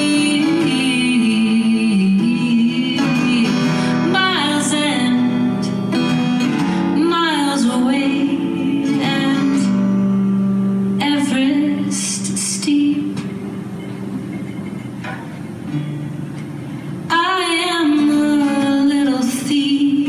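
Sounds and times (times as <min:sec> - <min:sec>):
woman singing: 0:00.0 - 0:13.4, 0:17.1 - 0:20.0
acoustic guitar: 0:00.0 - 0:20.0.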